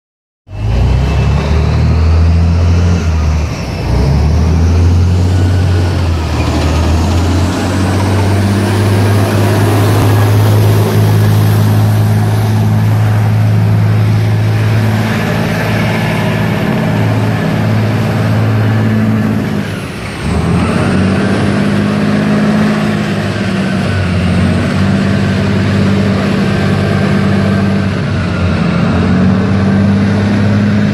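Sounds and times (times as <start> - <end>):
tracked vehicle engines droning: 0.5 - 30.9
high whine: 0.6 - 30.5.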